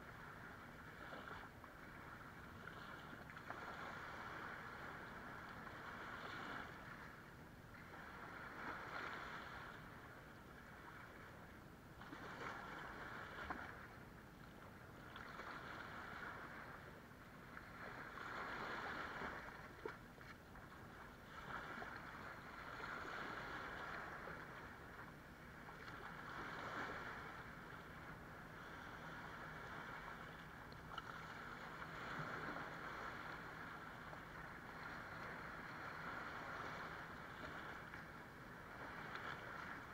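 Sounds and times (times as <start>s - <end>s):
small waves washing on sand: 0.0s - 39.9s.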